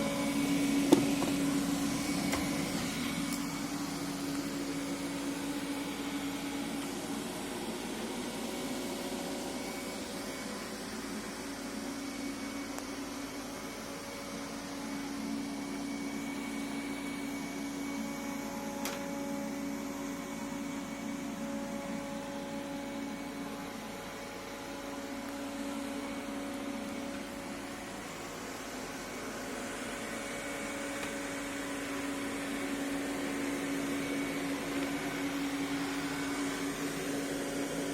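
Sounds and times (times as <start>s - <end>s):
robotic vacuum cleaner whirring: 0.0s - 37.9s.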